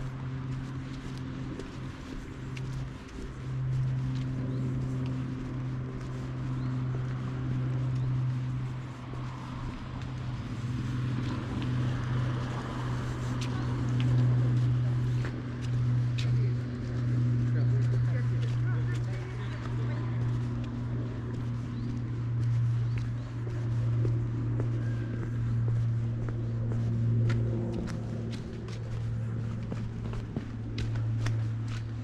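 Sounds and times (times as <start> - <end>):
light footsteps clicking: 0.0 - 32.0
low mechanical hum: 0.0 - 32.0.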